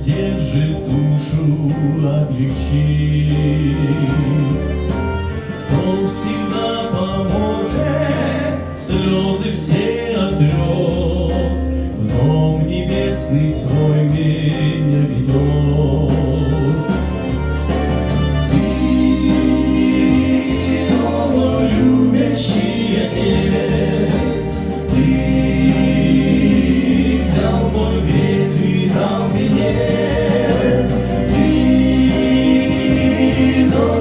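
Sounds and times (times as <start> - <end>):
low bass: 0.0 - 34.0
choir singing a hymn: 5.2 - 34.0.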